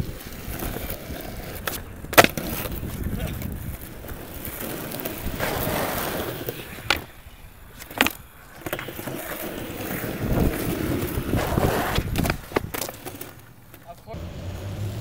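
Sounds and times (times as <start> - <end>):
skateboard clacking: 0.0 - 14.1
skateboard wheels rolling on asphalt: 0.0 - 15.0.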